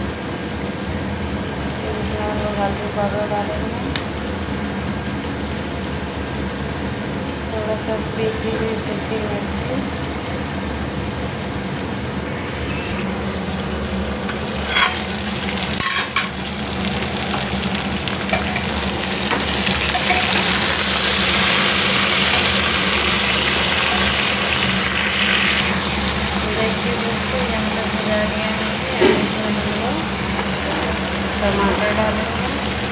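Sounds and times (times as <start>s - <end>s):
vegetables sizzling in hot oil: 2.0s - 32.9s.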